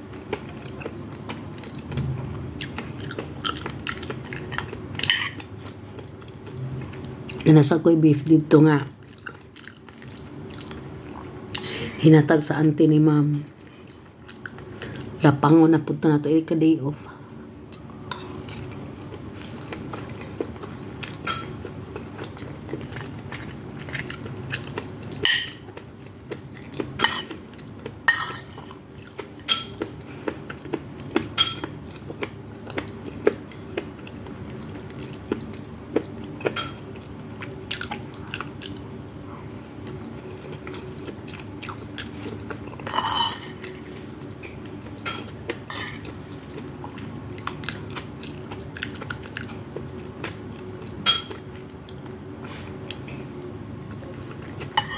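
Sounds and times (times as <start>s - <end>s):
steady low hum: 0.0s - 54.9s
chewing: 0.1s - 7.4s, 9.0s - 11.8s, 17.7s - 54.9s.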